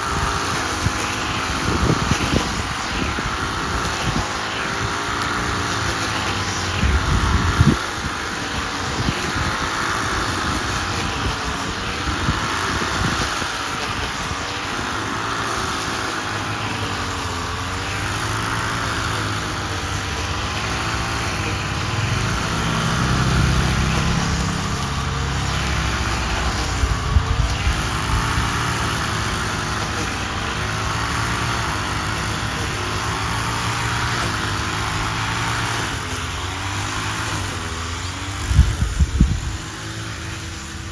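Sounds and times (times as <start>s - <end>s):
engine running under changing load: 0.0s - 40.9s.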